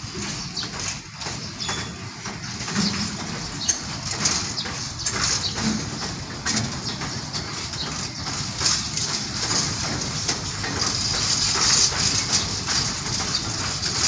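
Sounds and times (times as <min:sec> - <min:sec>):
diesel locomotive engine: 0:00.0 - 0:14.0
train wheels clicking and knocking: 0:00.0 - 0:14.0.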